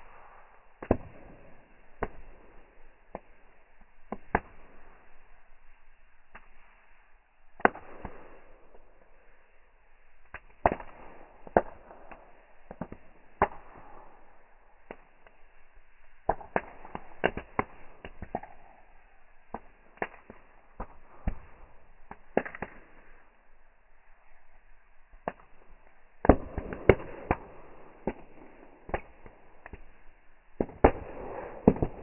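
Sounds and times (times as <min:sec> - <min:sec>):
faint steady hiss: 0:00.0 - 0:31.6
wood fire crackling: 0:00.0 - 0:32.0.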